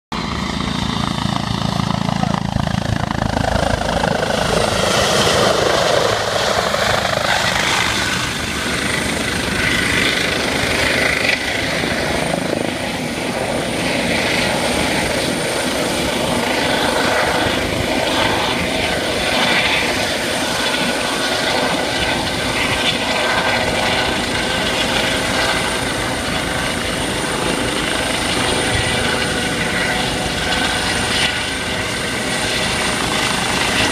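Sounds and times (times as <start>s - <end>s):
helicopter hovering: 0.1s - 33.9s.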